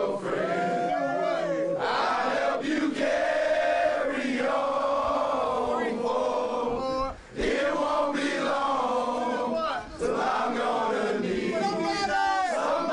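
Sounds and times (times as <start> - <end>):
group of men singing in unison: 0.0 - 12.9.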